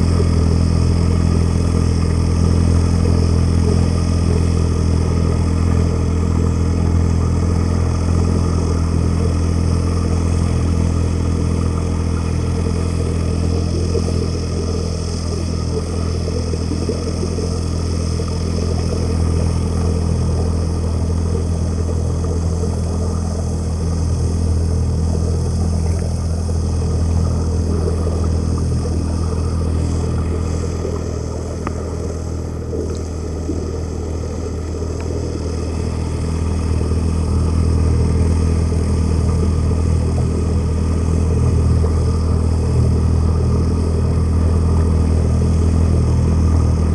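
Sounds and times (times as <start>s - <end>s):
boat engine droning underwater: 0.0s - 46.9s.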